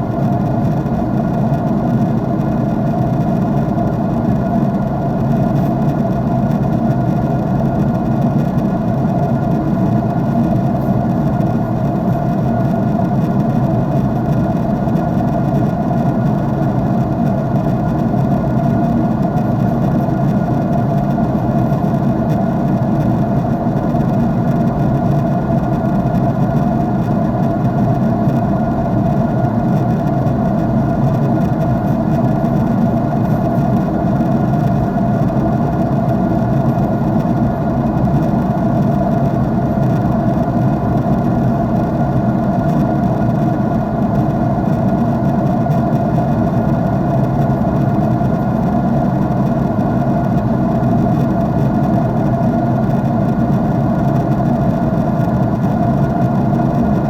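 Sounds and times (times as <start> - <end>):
faint steady hums: 0.0 - 57.0
jet airliner cabin roar: 0.0 - 57.0.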